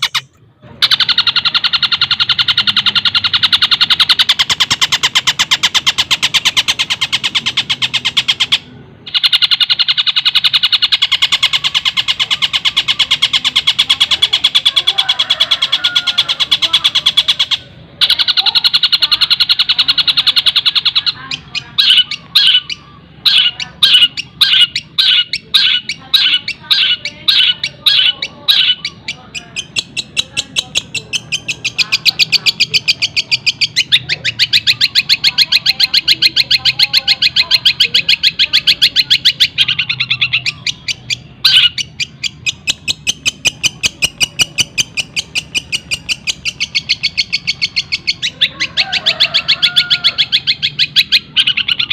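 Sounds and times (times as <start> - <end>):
bird chattering song: 0.0 - 51.9
rapid bird trills: 0.0 - 51.9
sharp bird notes: 0.0 - 51.9.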